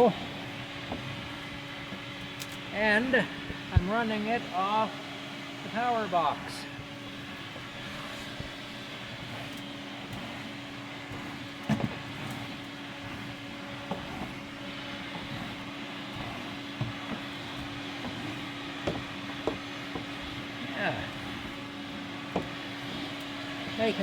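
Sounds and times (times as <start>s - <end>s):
vacuum cleaner humming: 0.0s - 24.0s.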